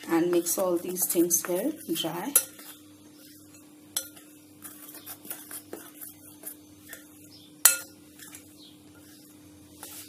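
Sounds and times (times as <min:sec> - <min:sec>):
spoon stirring powder in glass bowl: 0:00.2 - 0:10.0.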